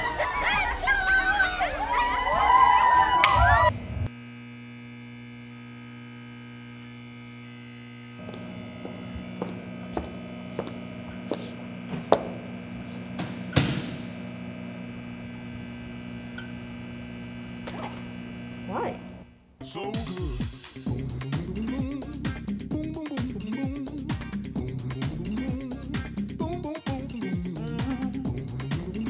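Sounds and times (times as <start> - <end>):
electrical hum: 3.2 - 29.0.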